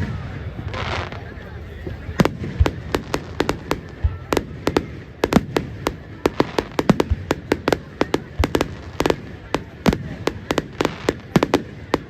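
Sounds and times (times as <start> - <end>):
deep fireworks booms: 0.0 - 12.0
fireworks bangs and cracks: 0.0 - 12.0.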